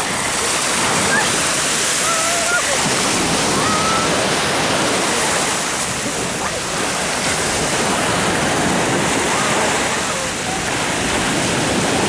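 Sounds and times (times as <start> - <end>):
sea surf rushing: 0.0 - 12.0.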